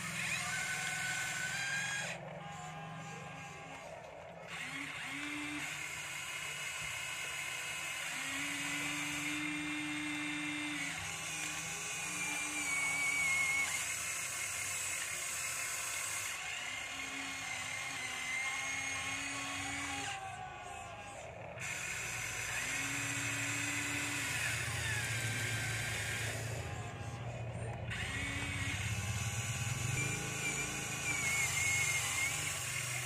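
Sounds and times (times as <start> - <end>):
toy electric motors whining: 0.0 - 33.0.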